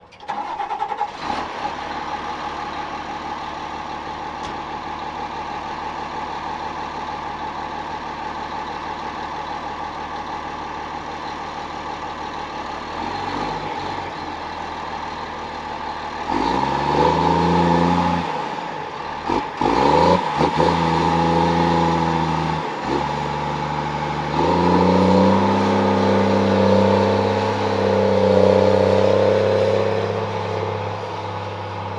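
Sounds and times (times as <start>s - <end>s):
engine idling and revving: 0.0s - 31.9s.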